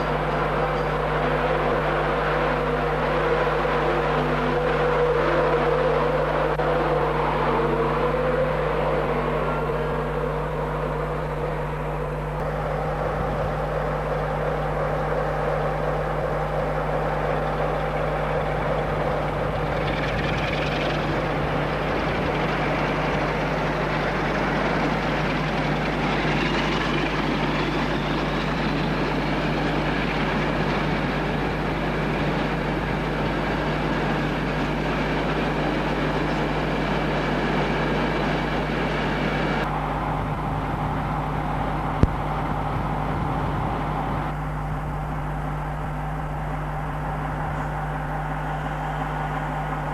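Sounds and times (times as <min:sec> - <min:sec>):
locomotive engine drone: 0:00.0 - 0:49.9
rising whine: 0:00.0 - 0:49.9.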